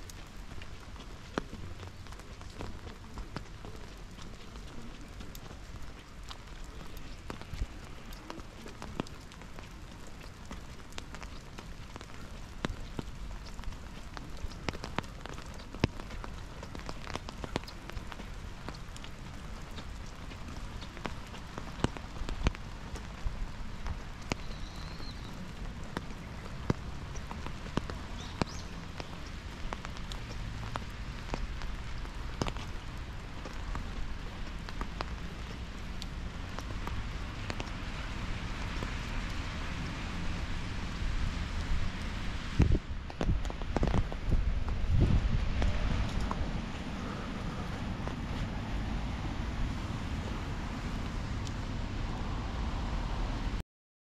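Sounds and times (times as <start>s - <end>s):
rain on stone paving: 0.0s - 53.6s.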